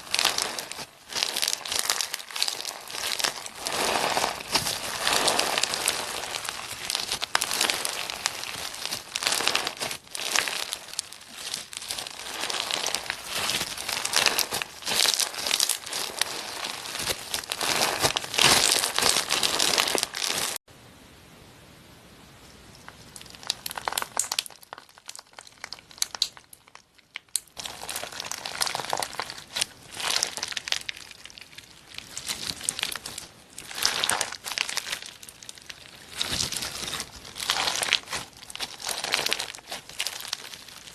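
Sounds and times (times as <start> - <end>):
hands squeezing crackling slime: 0.0 - 20.6, 22.8 - 40.9.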